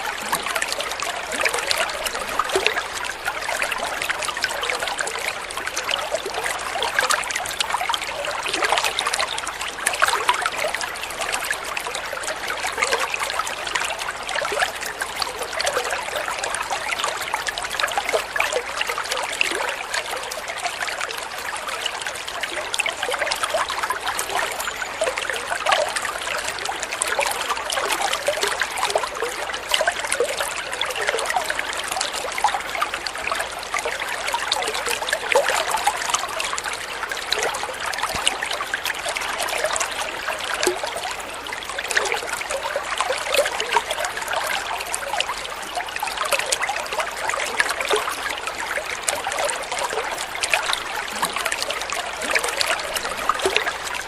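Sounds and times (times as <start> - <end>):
babbling stream: 0.0 - 54.0.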